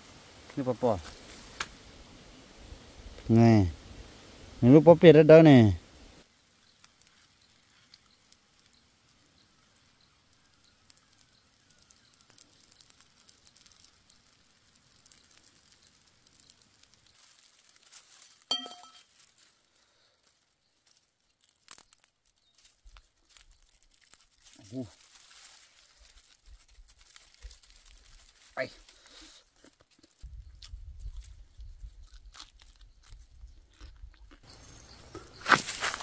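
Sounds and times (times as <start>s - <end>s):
wood embers crackling: 0.0s - 36.0s.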